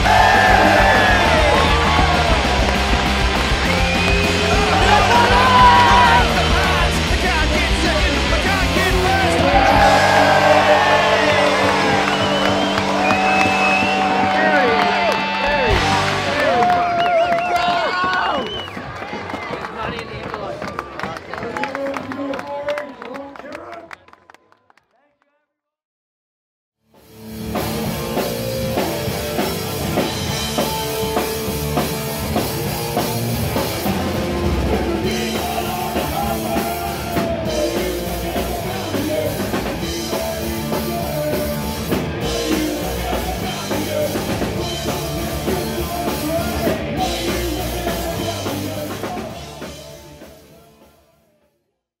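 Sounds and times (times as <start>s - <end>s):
rock music with drums: 0.0s - 18.8s, 26.9s - 51.3s.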